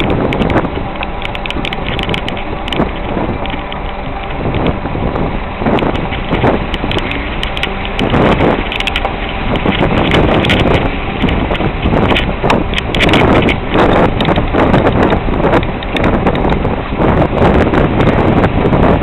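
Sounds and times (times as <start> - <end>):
vehicle engine running: 0.0 - 19.0
vehicle jolts and knocks on bumps: 0.0 - 19.0
wind buffeting microphone: 0.0 - 19.0.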